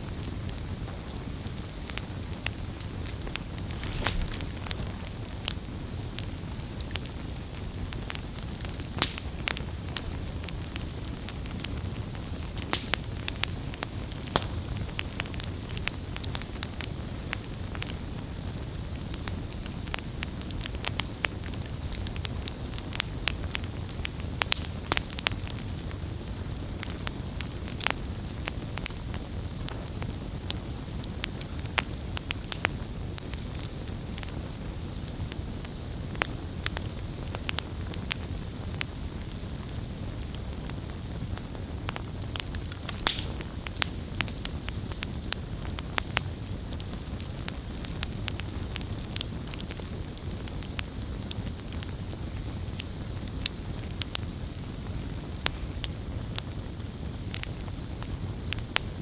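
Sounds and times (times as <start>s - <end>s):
campfire popping and snapping: 0.0s - 59.0s
low rumble of burning: 0.0s - 59.0s.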